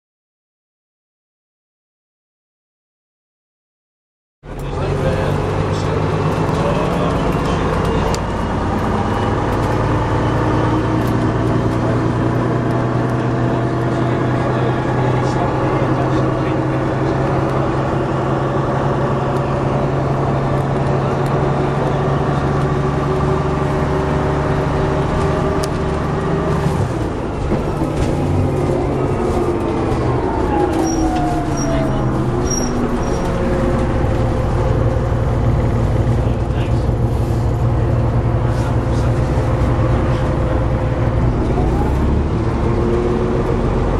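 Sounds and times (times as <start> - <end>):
bus diesel engine running: 4.4 - 43.9.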